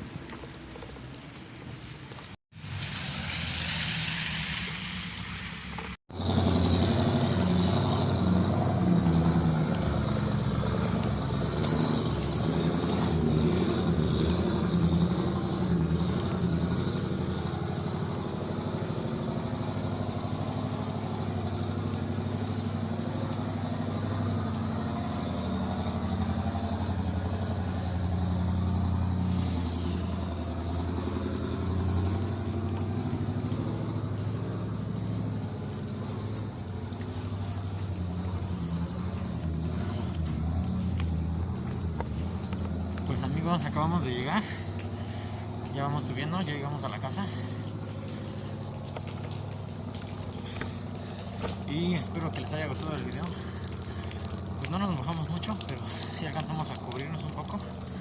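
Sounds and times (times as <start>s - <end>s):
rain hiss: 0.0s - 58.0s
road noise: 0.0s - 58.0s
vehicle engine humming: 0.0s - 58.0s.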